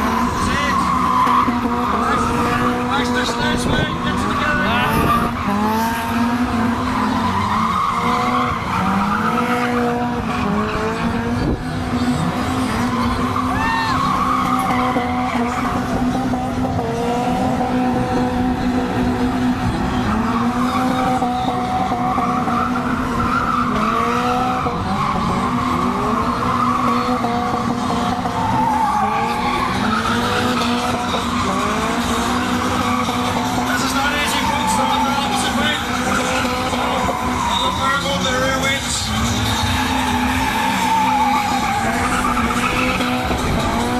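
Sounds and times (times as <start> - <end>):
tyres squealing: 0.0 - 10.8, 11.4 - 16.8, 19.7 - 43.9
car engines revving: 0.0 - 43.9.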